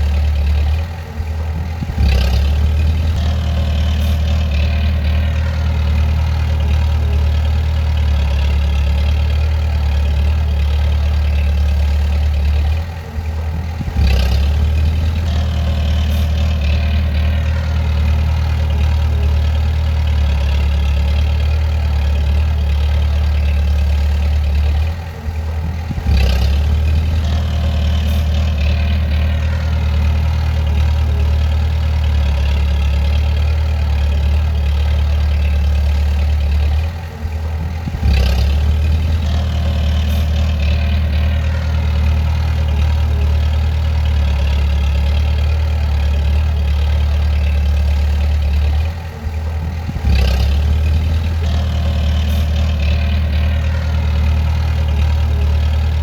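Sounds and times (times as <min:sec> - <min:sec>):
bulldozer diesel engine running: 0:00.0 - 0:56.0
engine knock: 0:00.0 - 0:56.0.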